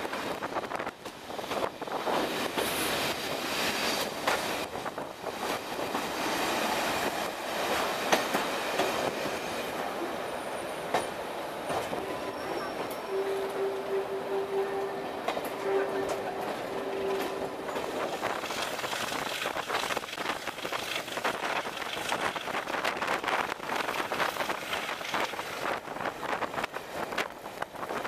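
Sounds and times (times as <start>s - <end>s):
wheels clicking over rail joints: 0.0s - 10.1s, 15.2s - 28.0s.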